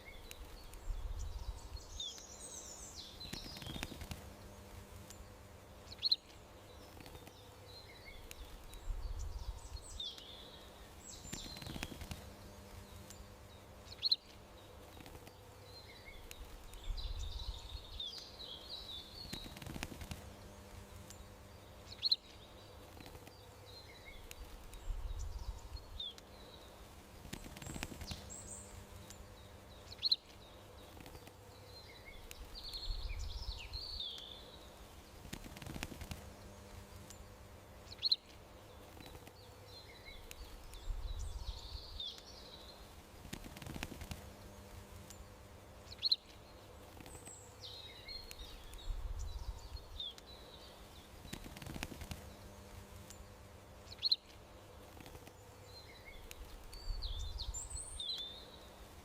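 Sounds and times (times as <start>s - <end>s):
faint hum: 0.0s - 59.0s.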